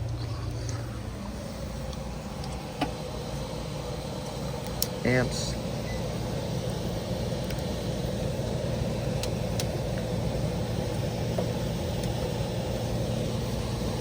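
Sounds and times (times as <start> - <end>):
blower motor and fan running: 0.0 - 14.0.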